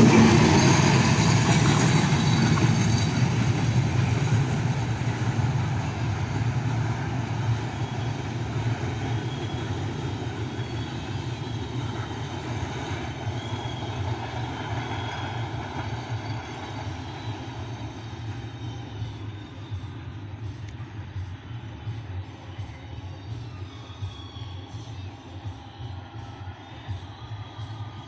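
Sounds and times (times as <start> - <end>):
train rumbling on track: 0.0 - 28.0.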